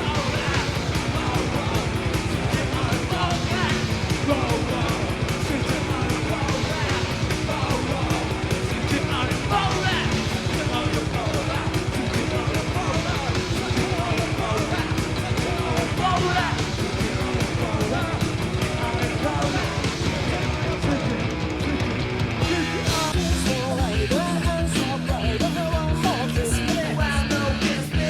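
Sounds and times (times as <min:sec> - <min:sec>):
lead vocal singing: 0:00.0 - 0:28.0
punk rock band playing: 0:00.0 - 0:28.0.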